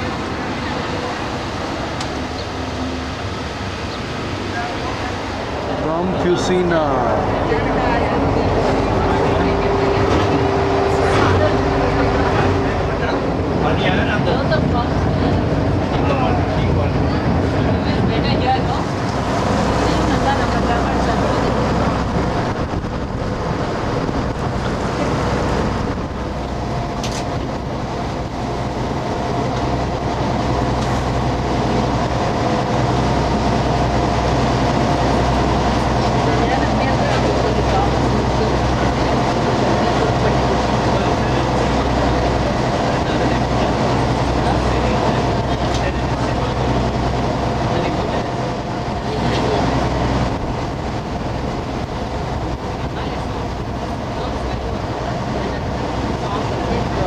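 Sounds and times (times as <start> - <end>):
motorboat engine droning: 0.0 - 57.0
water rushing: 0.0 - 57.0.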